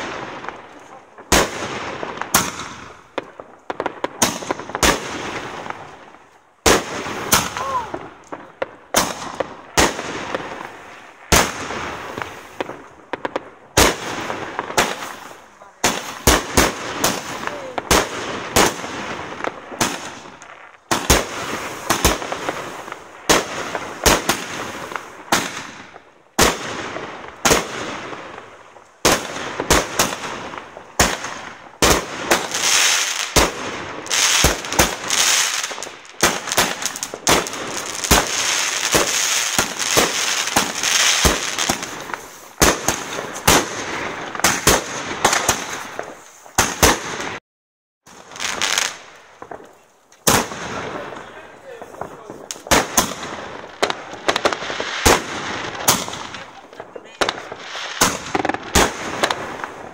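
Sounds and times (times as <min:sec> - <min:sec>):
fireworks bangs: 0:00.0 - 0:47.4, 0:48.1 - 0:59.9
fireworks crackling and hissing: 0:00.0 - 0:47.4, 0:48.0 - 0:59.9.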